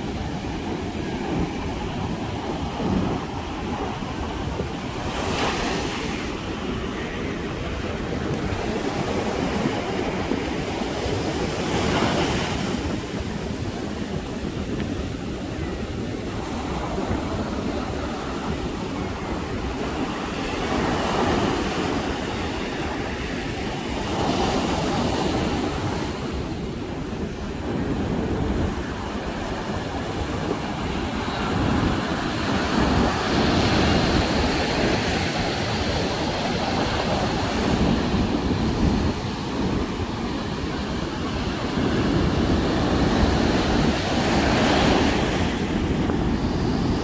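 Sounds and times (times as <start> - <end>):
waves breaking on a sandy beach: 0.0 - 47.0.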